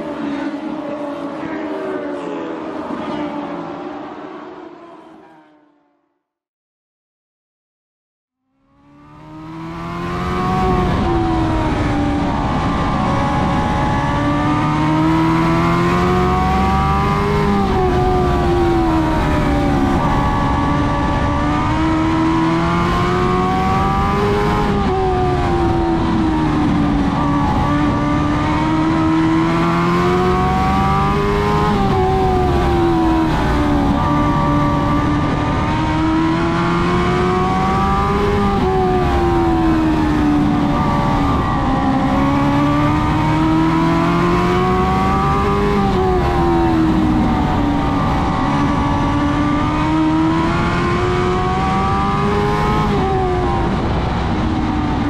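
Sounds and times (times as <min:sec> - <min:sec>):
race car engine revving: 0:08.8 - 0:55.0.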